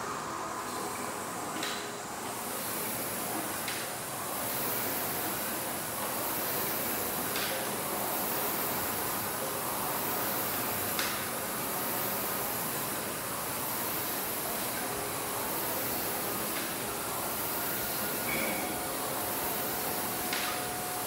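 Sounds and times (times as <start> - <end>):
rowing machine fan whooshing: 0.0 - 21.0.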